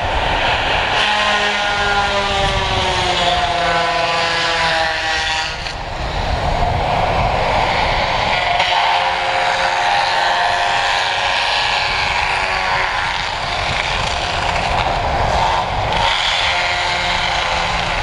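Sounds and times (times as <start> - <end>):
stump grinder cutter whine: 0.0 - 18.0.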